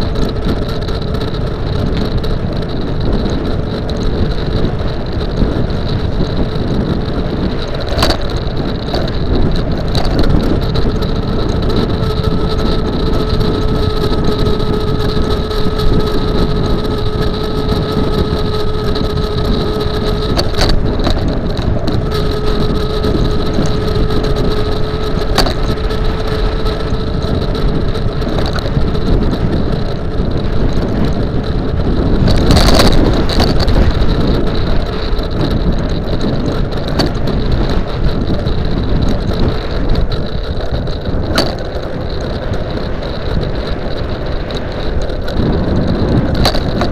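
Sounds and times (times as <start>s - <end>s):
electric motor whine: 0.0s - 46.9s
tyre rumble: 0.0s - 46.9s
wind rushing over microphone: 0.0s - 46.9s.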